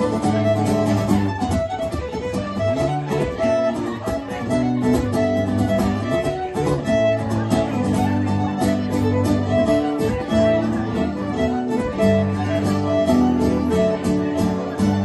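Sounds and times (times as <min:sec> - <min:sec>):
bowed fiddle melody: 0:00.0 - 0:15.0
guitar playing: 0:00.0 - 0:15.0.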